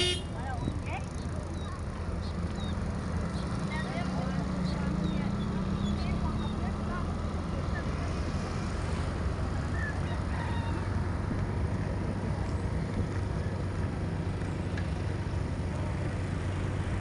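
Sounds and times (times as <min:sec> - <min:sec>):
vehicle driving slowly: 0:00.0 - 0:17.0.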